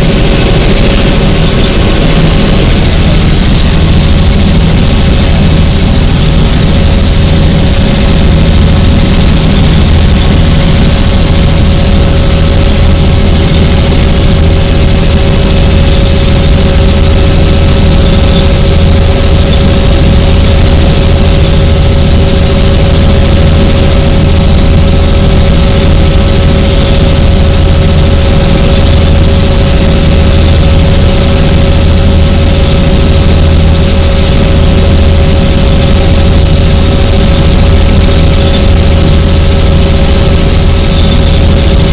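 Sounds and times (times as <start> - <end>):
helicopter rotor and engine drone: 0.0 - 41.9
high whine: 0.0 - 41.9.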